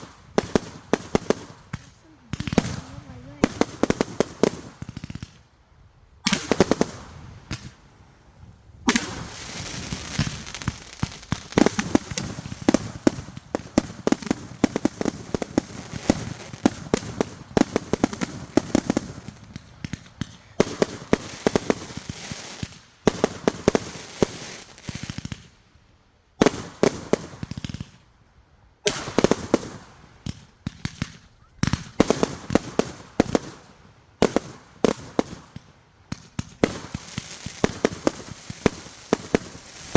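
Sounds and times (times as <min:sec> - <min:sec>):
fireworks bangs and crackle: 0:00.0 - 0:05.5, 0:06.2 - 0:25.6, 0:26.4 - 0:28.1, 0:28.8 - 0:39.9.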